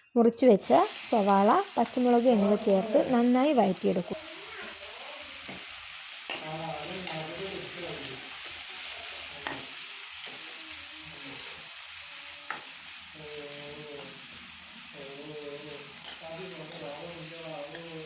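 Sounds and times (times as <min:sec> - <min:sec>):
onions sizzling in hot oil: 0:00.6 - 0:18.0.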